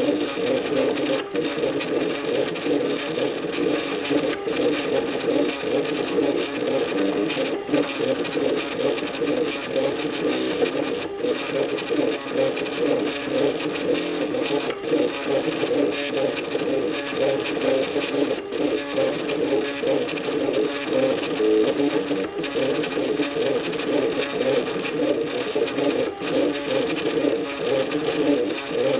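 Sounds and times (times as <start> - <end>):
stepper motors whirring: 0.0 - 28.9.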